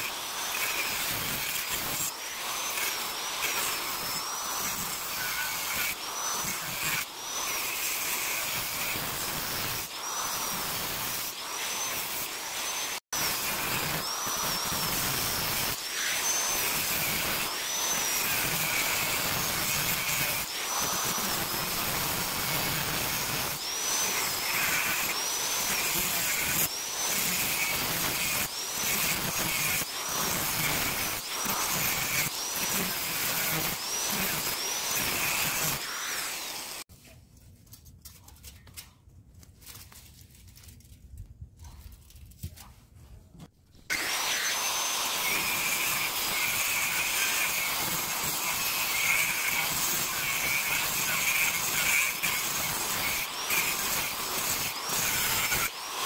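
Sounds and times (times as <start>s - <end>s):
angle grinder cutting metal: 0.0s - 36.9s, 43.9s - 56.0s.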